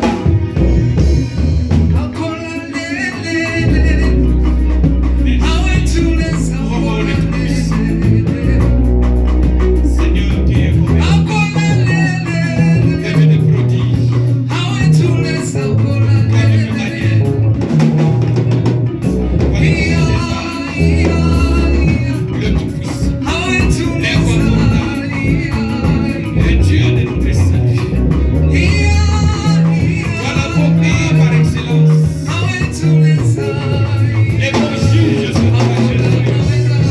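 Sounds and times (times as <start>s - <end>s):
worship band playing: 0.0s - 36.9s
voices singing: 1.7s - 18.6s, 19.4s - 36.9s.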